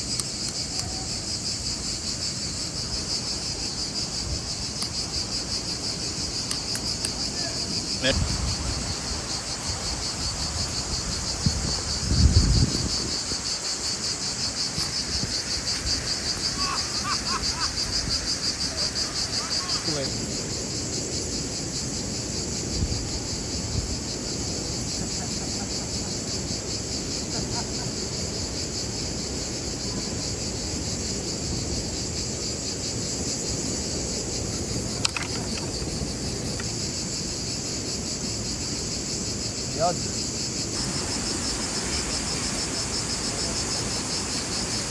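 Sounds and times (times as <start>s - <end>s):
insects chirping: 0.0s - 44.9s.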